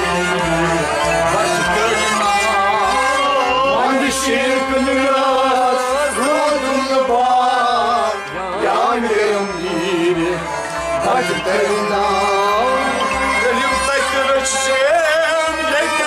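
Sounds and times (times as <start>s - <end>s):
instrumental accompaniment with held tones: 0.0s - 16.0s
person singing devotional song: 0.0s - 16.0s.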